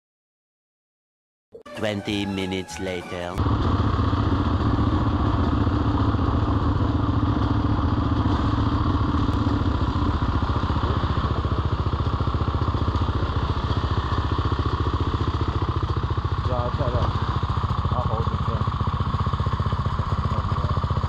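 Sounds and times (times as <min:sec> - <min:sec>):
dirt bike engine at low revs: 0:03.4 - 0:21.0.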